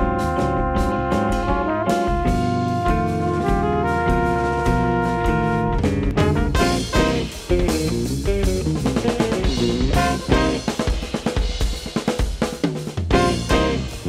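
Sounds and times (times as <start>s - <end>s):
small jazz band playing: 0.0s - 14.0s
snare and bass drum hits: 0.0s - 14.0s.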